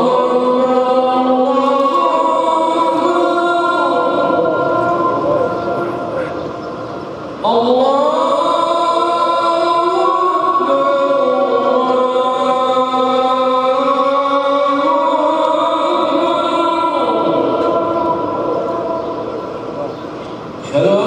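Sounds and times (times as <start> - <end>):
man chanting call to prayer: 0.0 - 21.0.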